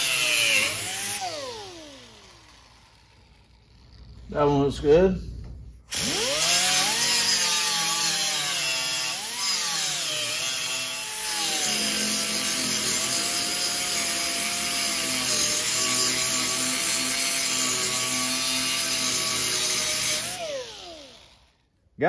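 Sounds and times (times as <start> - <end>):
air grinder grinding metal: 0.0 - 4.3, 5.9 - 21.6.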